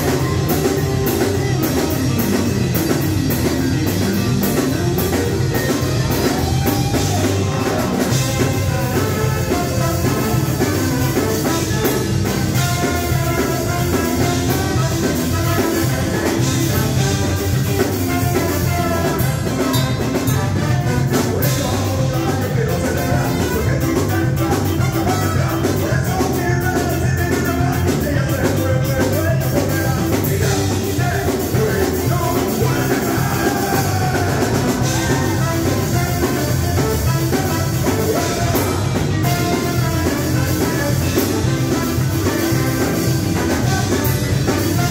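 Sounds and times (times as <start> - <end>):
live ska band playing: 0.0 - 44.9.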